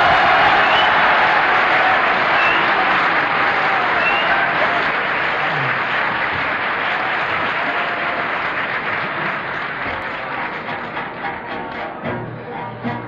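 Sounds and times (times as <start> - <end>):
concert audience applauding: 0.0 - 12.1.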